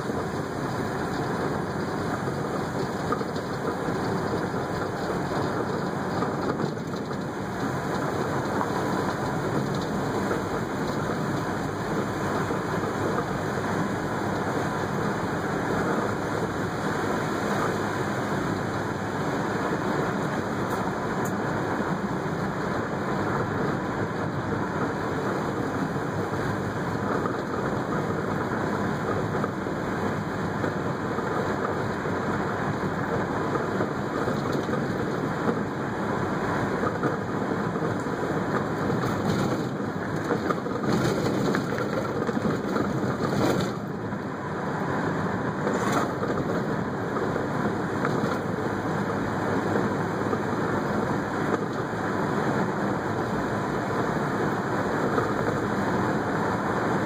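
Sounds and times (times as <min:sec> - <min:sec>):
car engine running: 0:00.0 - 0:57.0
tyres rolling over gravel: 0:00.0 - 0:57.0.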